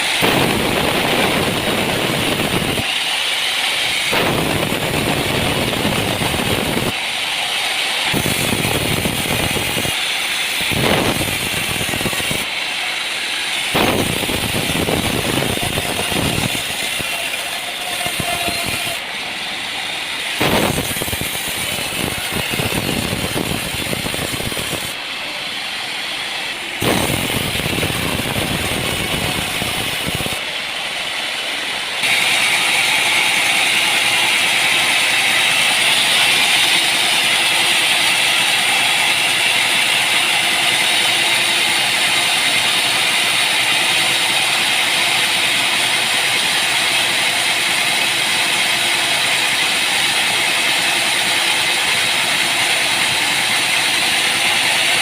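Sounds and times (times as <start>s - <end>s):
sawmill machinery rattling: 0.0s - 55.0s.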